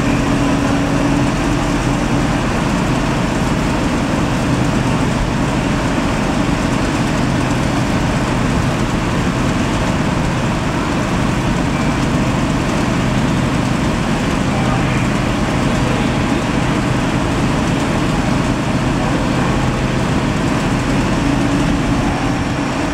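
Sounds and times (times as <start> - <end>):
diesel engine droning: 0.0 - 22.9.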